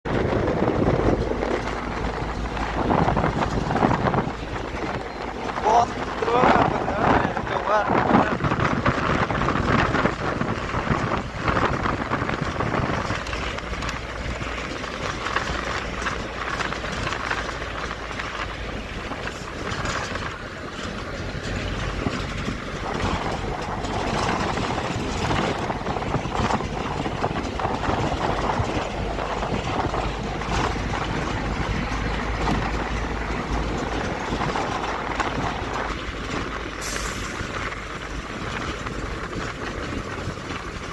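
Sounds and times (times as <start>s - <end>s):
flooded river rushing: 0.1s - 37.2s.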